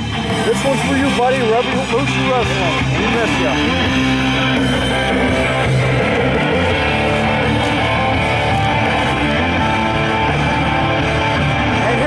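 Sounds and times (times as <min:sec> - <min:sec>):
guitar music: 0:00.0 - 0:12.0.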